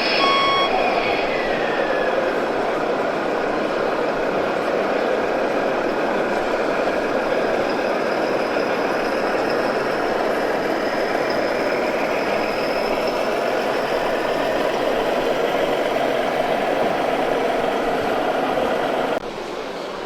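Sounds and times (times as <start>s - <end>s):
faint high whine: 0.0s - 20.0s
model truck engine noise: 0.0s - 20.0s.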